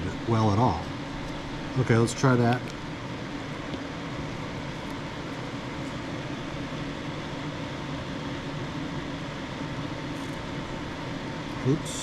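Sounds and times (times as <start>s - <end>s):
fan humming and hissing: 0.0s - 12.0s.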